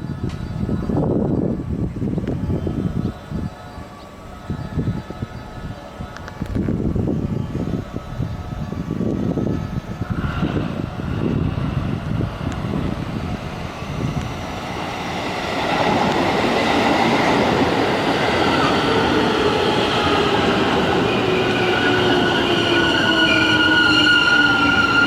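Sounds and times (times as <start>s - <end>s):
electric train pulling in: 0.0s - 25.0s.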